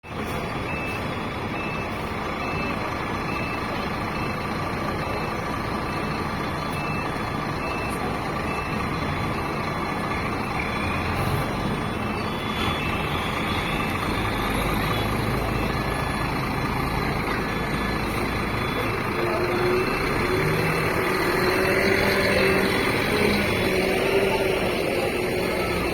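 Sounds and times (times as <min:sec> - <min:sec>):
bus diesel engine running: 0:00.0 - 0:25.9
reversing alarm beeping: 0:00.1 - 0:25.9.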